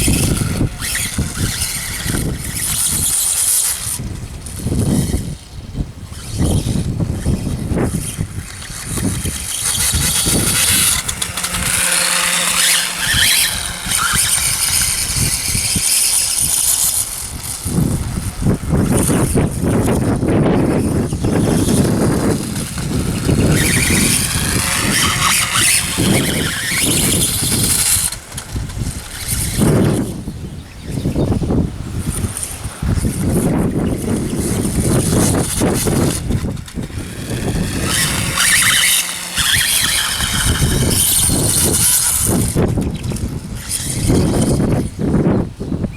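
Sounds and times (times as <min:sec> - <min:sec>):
tyres on rough ground: 0:00.0 - 0:45.3
electric motor whining: 0:00.0 - 0:45.9.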